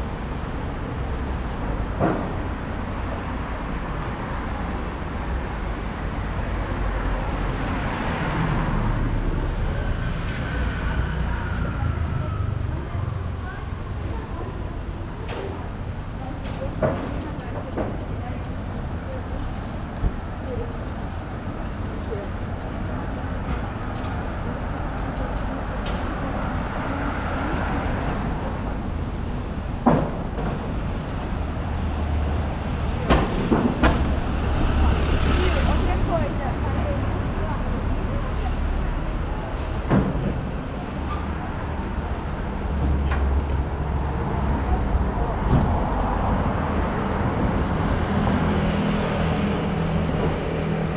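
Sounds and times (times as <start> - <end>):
low traffic rumble: 0.0 - 50.9.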